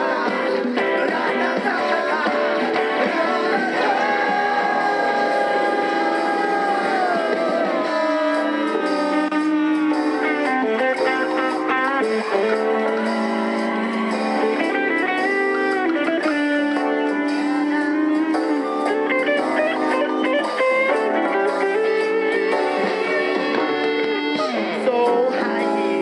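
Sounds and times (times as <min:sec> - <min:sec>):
electric guitar bending notes: 0:00.0 - 0:26.0
live band music: 0:00.0 - 0:26.0.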